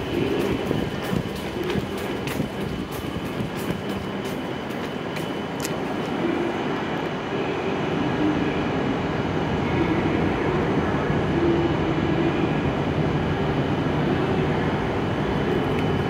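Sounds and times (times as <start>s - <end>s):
mid-pitched whine: 0.0s - 16.0s
train electrical hum: 0.0s - 16.0s.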